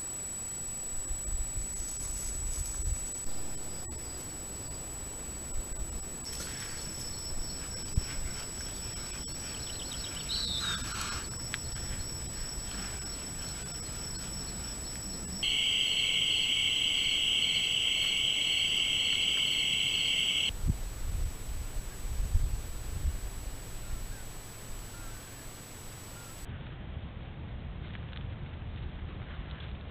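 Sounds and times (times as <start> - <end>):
high thin insect drone: 0.0 - 26.5
loud low insect buzz: 0.0 - 26.5.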